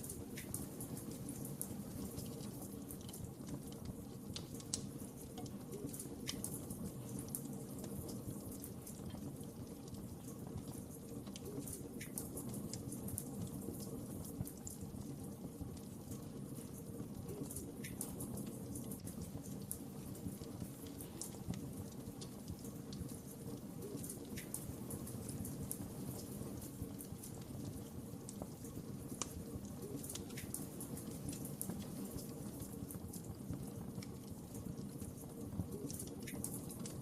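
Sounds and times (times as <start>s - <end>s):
crackles and pops of burning logs: 0.0s - 37.0s
low rumble of flames: 0.0s - 37.0s.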